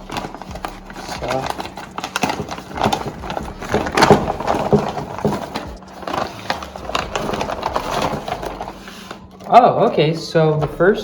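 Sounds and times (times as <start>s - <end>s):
packaging rustling and tearing: 0.0s - 11.0s.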